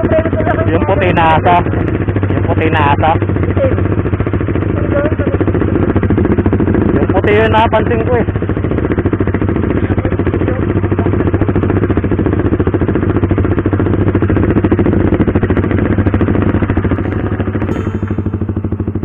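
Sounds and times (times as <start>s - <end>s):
motorcycle engine running at low revs: 0.0s - 19.0s.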